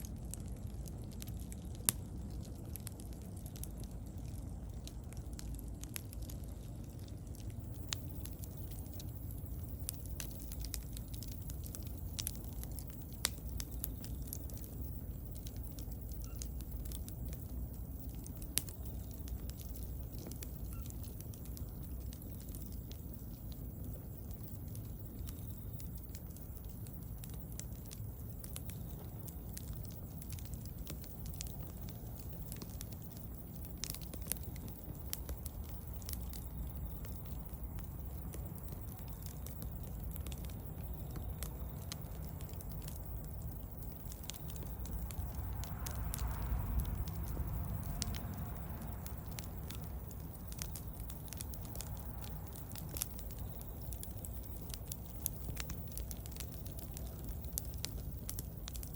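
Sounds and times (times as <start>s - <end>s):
bonfire crackling and popping: 0.0s - 58.9s
low rumble of flames: 0.0s - 58.9s.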